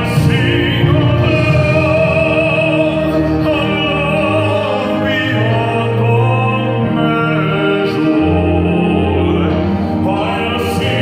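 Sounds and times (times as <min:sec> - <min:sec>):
male vocal quartet singing hymn: 0:00.0 - 0:11.0.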